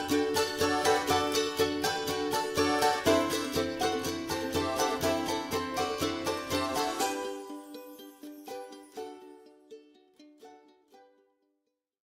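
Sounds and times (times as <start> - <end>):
plucked string music with beat: 0.0 - 11.3.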